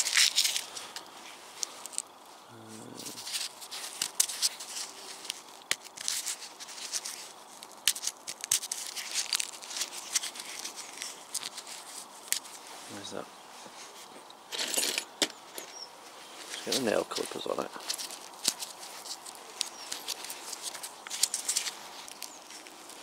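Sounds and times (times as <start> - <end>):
tape and plastic crackling: 0.0 - 2.3, 3.0 - 12.7, 16.4 - 23.0.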